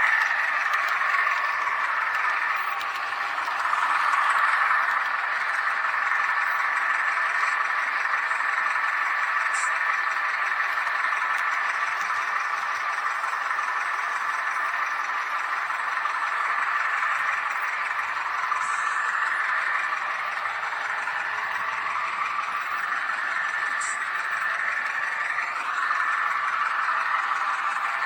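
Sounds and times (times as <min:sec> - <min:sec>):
model train motor whirring: 0:00.0 - 0:28.0.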